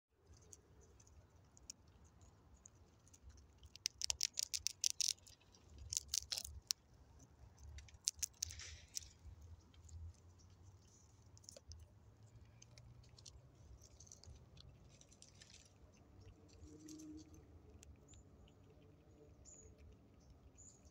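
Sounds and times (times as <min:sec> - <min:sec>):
squirrel gnawing a nut: 0:00.2 - 0:20.9.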